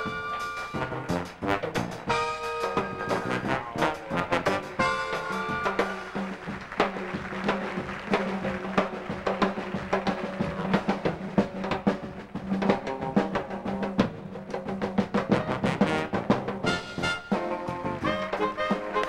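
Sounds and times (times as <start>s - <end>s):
orchestra playing dance music: 0.0s - 13.4s, 15.2s - 19.0s
drum and percussion hits: 0.0s - 19.0s.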